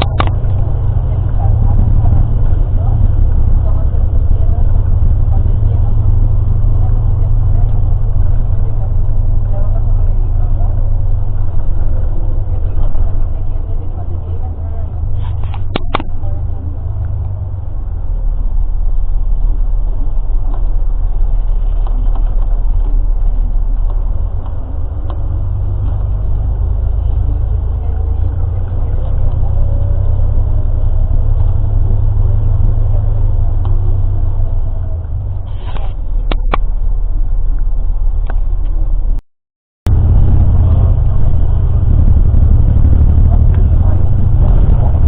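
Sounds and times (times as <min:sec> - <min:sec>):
road vehicle rumble: 0:00.0 - 0:39.2, 0:39.8 - 0:45.0.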